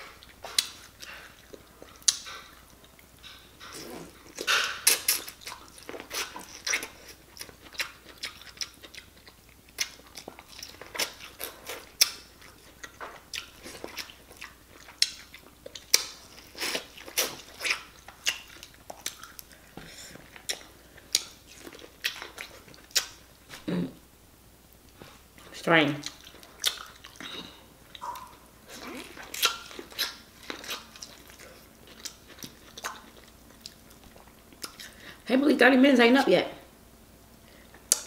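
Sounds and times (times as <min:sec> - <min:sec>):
person chewing wetly: 0:00.0 - 0:23.6, 0:25.4 - 0:35.2.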